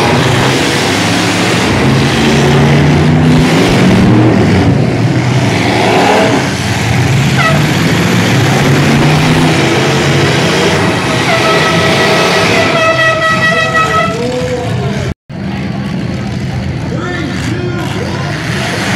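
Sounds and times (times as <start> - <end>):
truck engines revving: 0.0 - 18.9.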